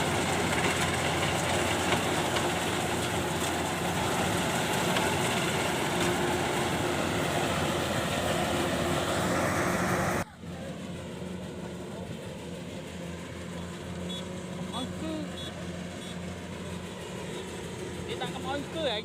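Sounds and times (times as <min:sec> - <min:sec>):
combine harvester running: 0:00.0 - 0:19.0
engine hum: 0:00.0 - 0:19.0.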